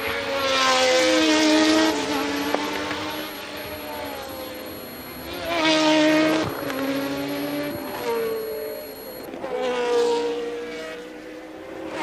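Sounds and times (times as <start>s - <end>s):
racing cars passing at high revs: 0.0s - 12.0s.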